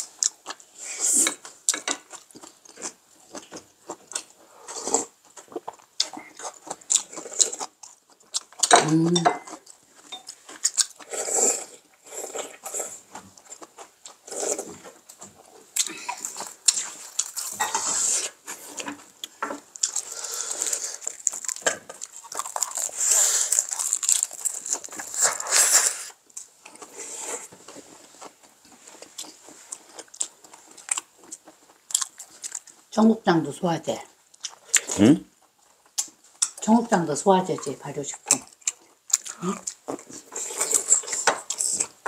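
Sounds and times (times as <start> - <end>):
chewing and crunching food: 0.0 - 33.0, 34.0 - 42.0.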